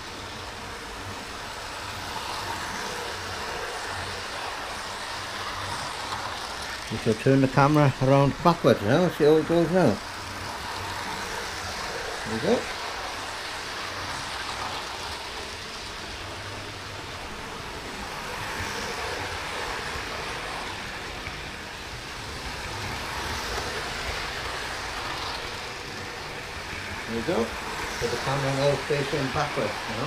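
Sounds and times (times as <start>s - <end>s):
model train wheels rumbling: 0.0s - 30.0s.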